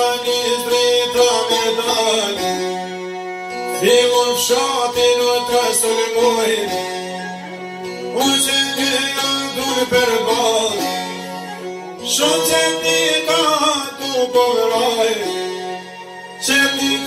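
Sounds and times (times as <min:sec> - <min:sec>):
man singing mournful folk song: 0:00.0 - 0:17.0
strummed lutes: 0:00.0 - 0:17.0.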